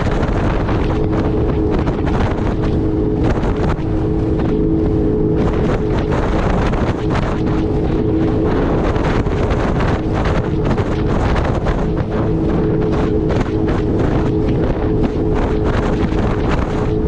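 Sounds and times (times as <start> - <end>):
jet ski engine droning: 0.0 - 17.0
wind buffeting microphone: 0.0 - 17.0.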